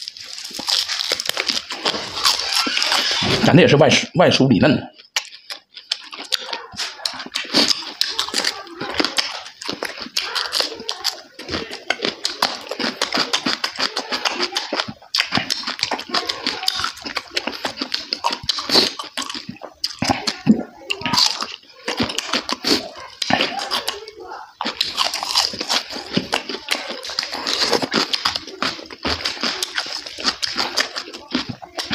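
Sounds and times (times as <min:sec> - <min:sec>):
wet chewing and lip smacking: 0:00.0 - 0:03.4, 0:04.9 - 0:31.9.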